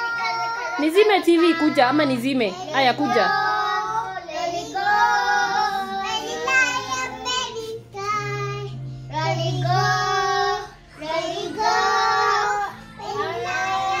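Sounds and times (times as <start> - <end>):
children singing over music: 0.0 - 14.0.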